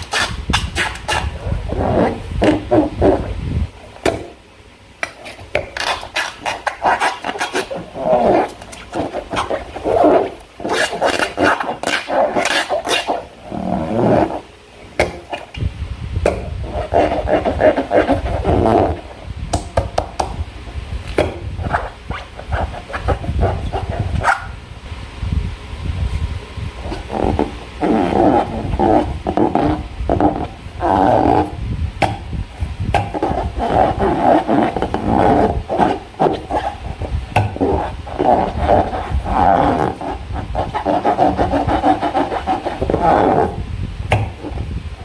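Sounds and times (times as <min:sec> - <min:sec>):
squeaky rubbing and squelching: 0:00.0 - 0:04.4, 0:05.0 - 0:15.7, 0:16.3 - 0:19.3, 0:21.2 - 0:24.6, 0:26.8 - 0:31.6, 0:32.5 - 0:44.7.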